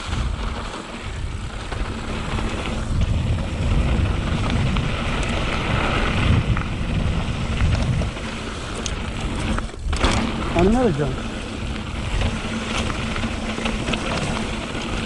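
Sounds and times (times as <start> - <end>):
bike clicks and rattles: 0.0 - 15.0
tyres rumbling on gravel: 0.0 - 15.0
wind buffeting microphone: 0.0 - 15.0.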